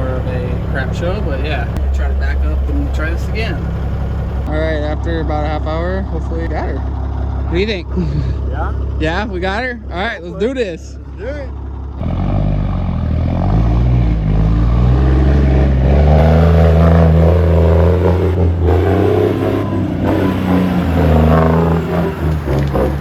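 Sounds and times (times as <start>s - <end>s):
truck diesel engine under load: 0.0s - 23.0s.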